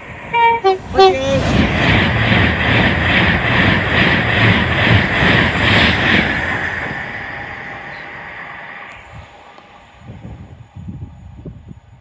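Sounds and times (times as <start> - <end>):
train wheels clattering: 0.0 - 9.7
electric train rushing past: 0.0 - 12.0.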